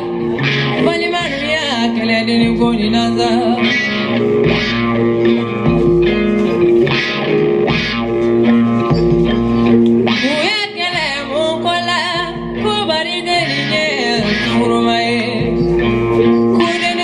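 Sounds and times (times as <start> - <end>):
bass line: 0.0 - 17.0
electric guitar held notes: 0.0 - 17.0.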